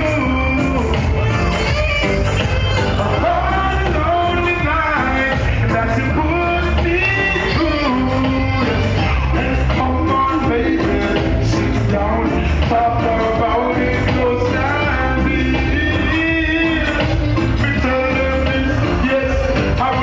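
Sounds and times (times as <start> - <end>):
dancehall music with heavy bass: 0.0 - 20.0
man singing into a microphone: 0.0 - 20.0.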